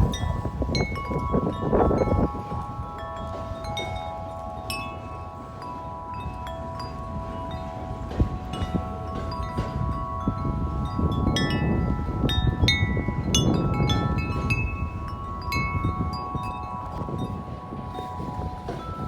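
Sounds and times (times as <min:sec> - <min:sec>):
low wind rumble: 0:00.0 - 0:19.0
wind chime ringing: 0:00.0 - 0:19.0.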